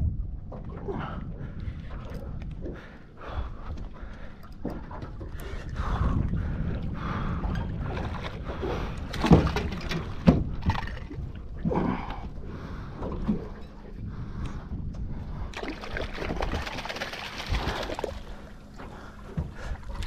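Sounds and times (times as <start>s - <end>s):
water slapping a boat hull: 0.0s - 20.0s
wind rumble on microphone: 0.0s - 20.0s.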